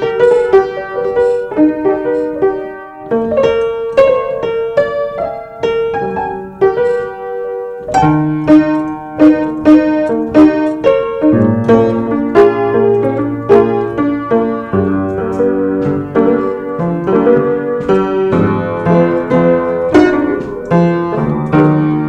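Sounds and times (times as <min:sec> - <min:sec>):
low piano bass notes: 0:00.0 - 0:22.0
piano notes and chords: 0:00.0 - 0:22.0.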